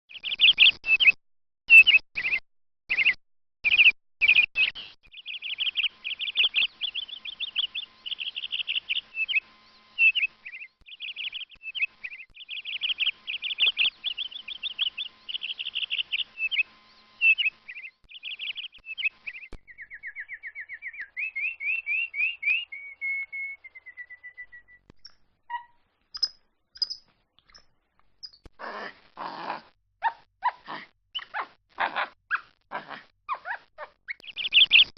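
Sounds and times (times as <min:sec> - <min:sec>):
canary singing trills: 0:00.1 - 0:28.5, 0:30.0 - 0:34.9.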